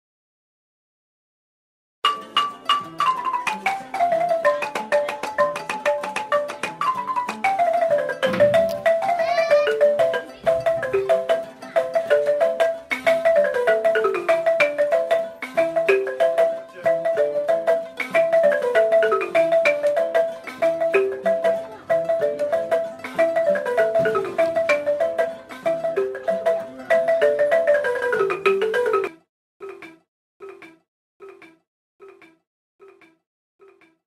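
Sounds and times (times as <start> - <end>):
instrumental music of struck notes: 2.0 - 34.0.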